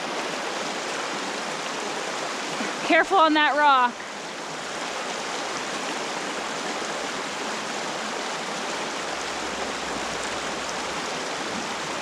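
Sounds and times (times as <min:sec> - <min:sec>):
brook running over stones: 0:00.0 - 0:12.0.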